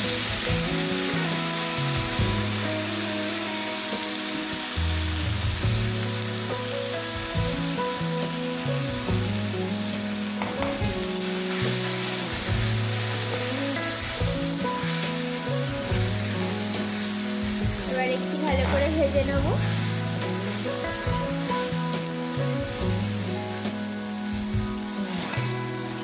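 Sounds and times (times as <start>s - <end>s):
background music: 0.0s - 26.0s
fish sizzling in hot oil: 0.0s - 26.0s.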